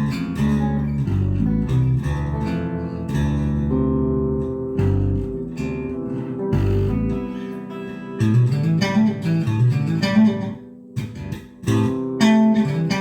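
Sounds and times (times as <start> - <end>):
guitar playing: 0.0 - 13.0.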